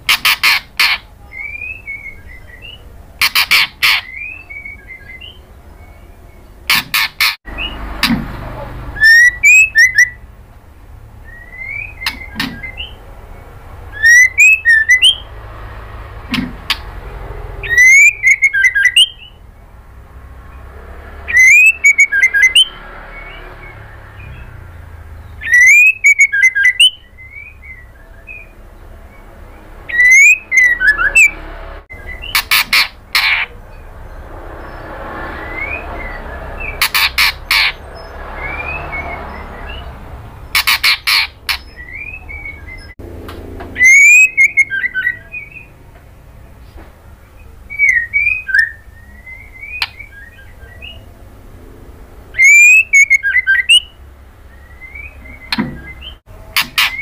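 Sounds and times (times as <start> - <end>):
bird calling: 0.0 - 10.4, 11.0 - 43.0, 43.6 - 51.4, 52.2 - 57.0.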